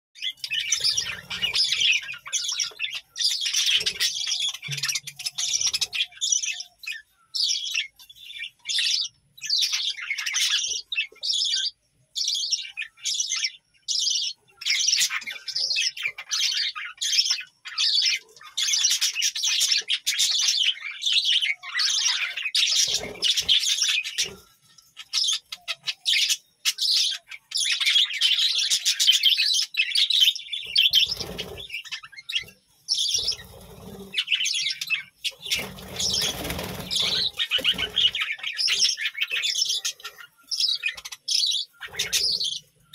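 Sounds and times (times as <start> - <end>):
budgerigars chirping and warbling: 0.2 - 42.9.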